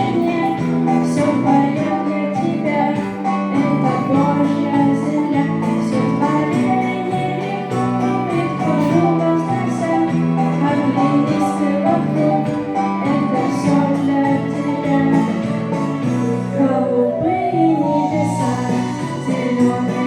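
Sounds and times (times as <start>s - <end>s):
instrumental backing music: 0.0s - 20.0s
person singing: 0.0s - 20.0s.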